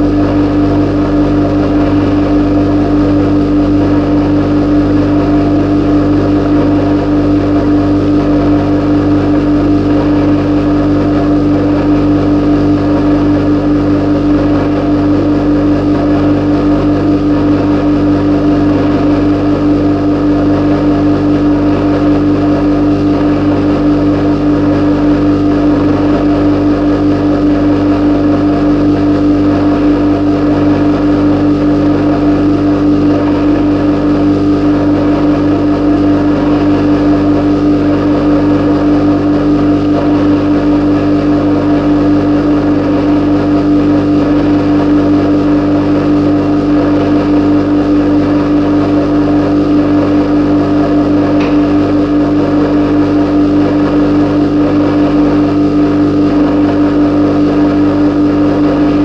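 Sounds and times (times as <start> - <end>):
refrigerator hum: 0.0 - 59.0.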